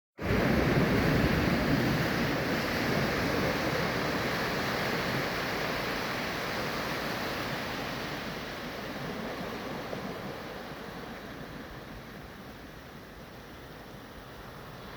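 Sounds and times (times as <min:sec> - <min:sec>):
surf washing on shore: 0:00.2 - 0:14.9.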